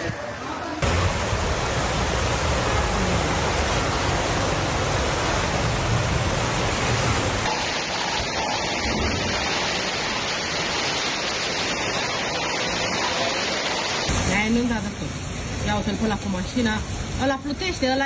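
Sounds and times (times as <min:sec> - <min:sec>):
heavy rain: 0:00.0 - 0:18.0
running floodwater: 0:00.0 - 0:18.0.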